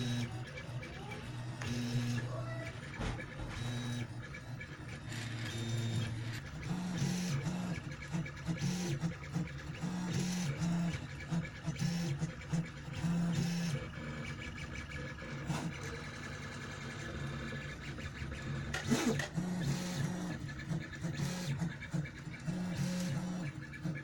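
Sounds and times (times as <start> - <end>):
stepper motors humming: 0.0 - 24.0.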